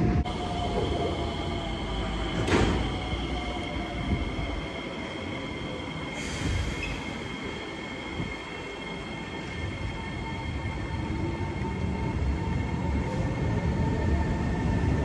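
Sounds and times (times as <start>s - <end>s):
train high whine: 0.0s - 15.0s
train low rumble: 0.0s - 15.0s.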